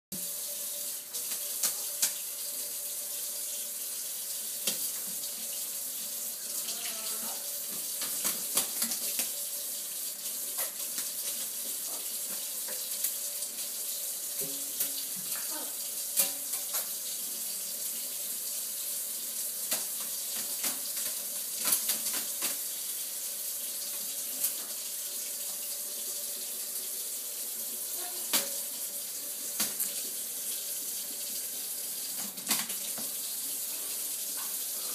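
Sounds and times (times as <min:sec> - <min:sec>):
faucet running into sink: 0:00.2 - 0:34.9.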